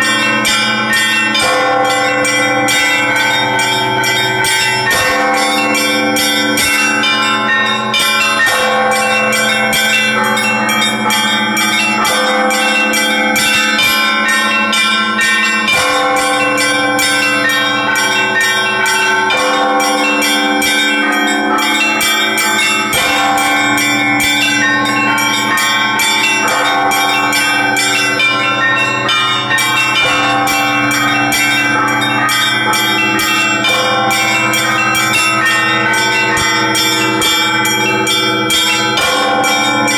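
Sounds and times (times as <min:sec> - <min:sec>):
large bells ringing: 0:00.0 - 0:39.9
small bells struck rapidly: 0:00.0 - 0:39.9.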